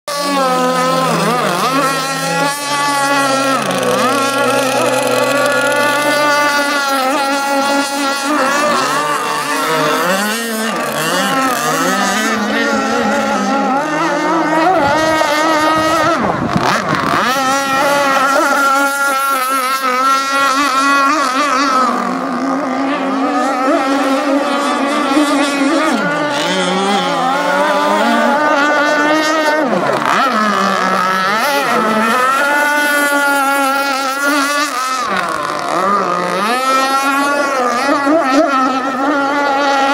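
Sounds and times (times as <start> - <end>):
model boat engine running: 0.1 - 39.9.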